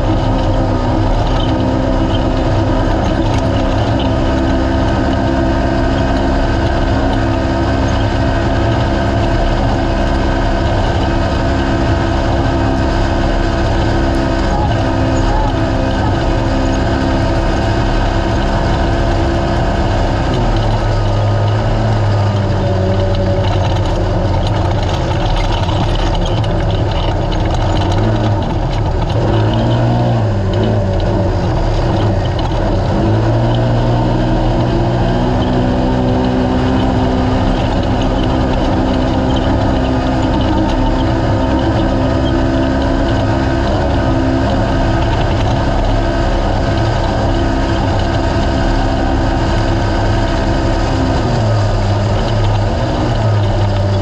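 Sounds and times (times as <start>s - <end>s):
race vehicle engine running hard: 0.0s - 54.0s
rough vehicle and terrain noise: 0.0s - 54.0s.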